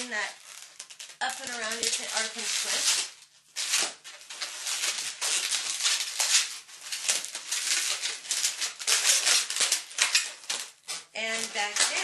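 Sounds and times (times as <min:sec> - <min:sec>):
balloons rubbing and rustling: 0:00.0 - 0:12.0.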